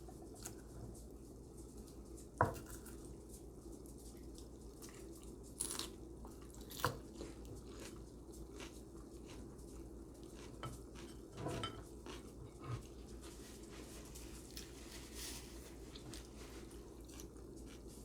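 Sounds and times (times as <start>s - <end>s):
chewing: 0.2s - 18.0s.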